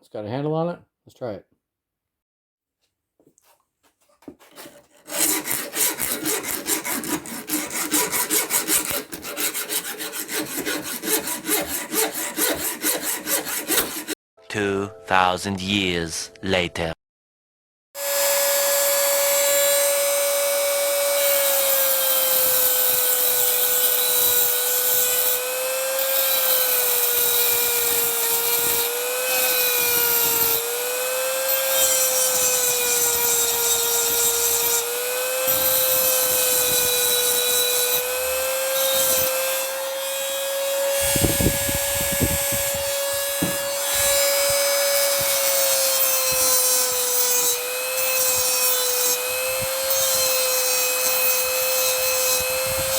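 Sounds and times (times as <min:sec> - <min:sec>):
rotary tool grinding metal: 0:04.4 - 0:14.2, 0:18.0 - 0:52.9.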